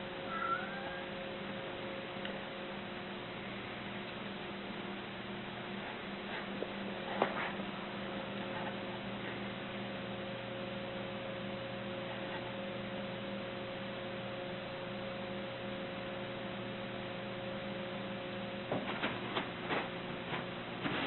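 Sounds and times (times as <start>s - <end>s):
electrical hum with hiss: 0.0s - 21.0s.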